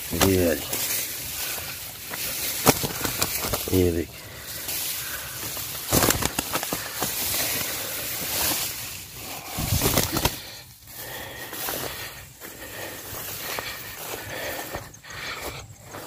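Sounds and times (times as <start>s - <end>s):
hand handling a bird: 0.0s - 16.0s
rustling of grass: 0.0s - 16.0s.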